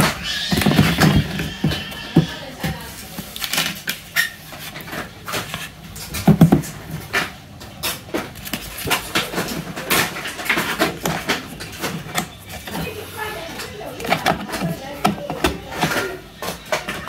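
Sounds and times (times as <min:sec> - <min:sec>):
plastic parts clicking and knocking: 0:00.0 - 0:17.0.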